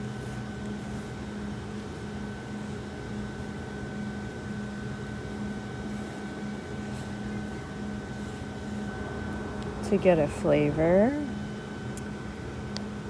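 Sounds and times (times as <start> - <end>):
pulsing mechanical hum: 0.0 - 13.0.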